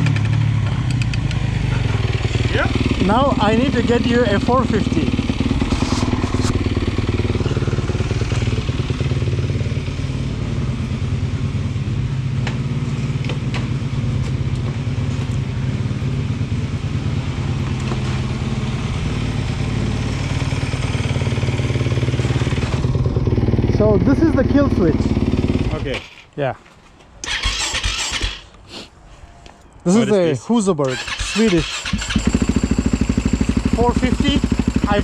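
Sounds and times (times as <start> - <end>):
dirt bike engine idling: 0.0 - 26.2, 30.9 - 35.0.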